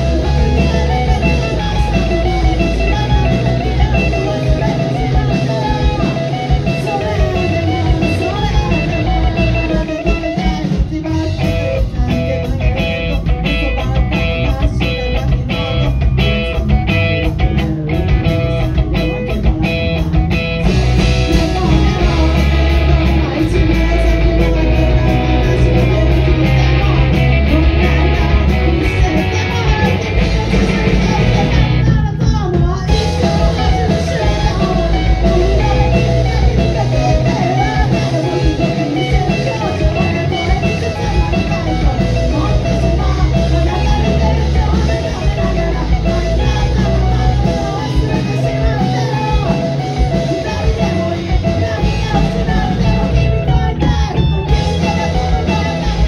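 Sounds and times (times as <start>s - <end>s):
bass guitar: 0.0s - 56.0s
drum kit: 0.0s - 56.0s
electric guitars: 0.0s - 56.0s
person singing lead vocal: 0.0s - 56.0s.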